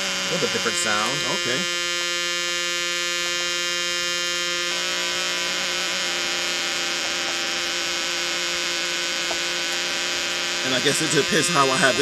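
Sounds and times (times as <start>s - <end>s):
buzzing electronic tone: 0.0s - 12.0s.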